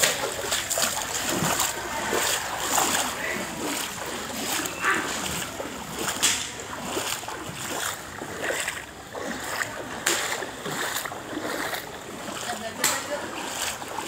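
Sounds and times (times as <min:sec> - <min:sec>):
footsteps splashing through water: 0:00.0 - 0:14.0.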